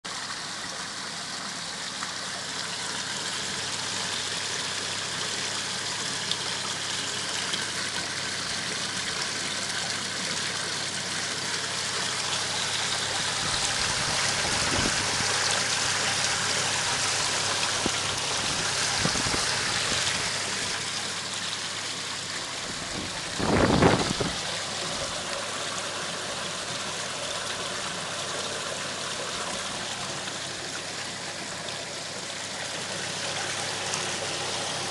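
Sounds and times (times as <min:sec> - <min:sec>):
water running and splashing: 0:00.1 - 0:34.9.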